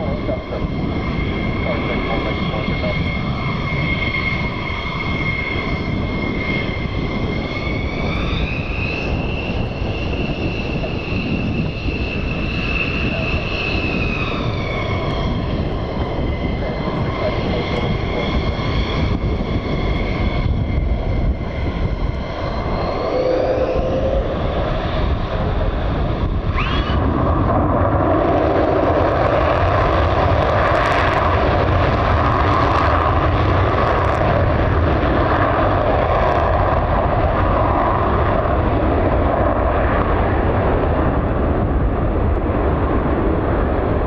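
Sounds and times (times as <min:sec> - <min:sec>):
jet engines rumbling and whining: 0:00.0 - 0:44.0.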